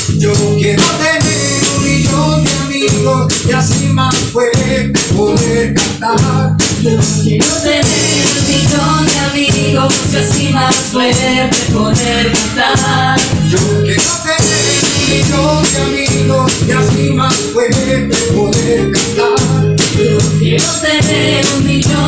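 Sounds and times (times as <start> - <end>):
acoustic guitar: 0.0 - 22.0
drum kit with cymbals: 0.0 - 22.0
electric bass: 0.0 - 22.0
electronic keyboard: 0.0 - 22.0.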